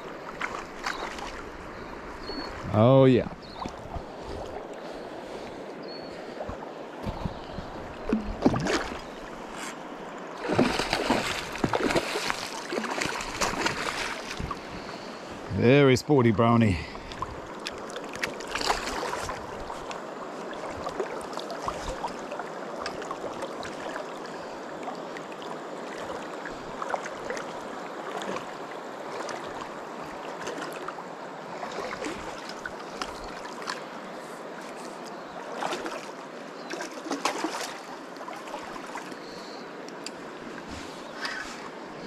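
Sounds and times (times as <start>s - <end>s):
river water flowing: 0.0s - 42.0s.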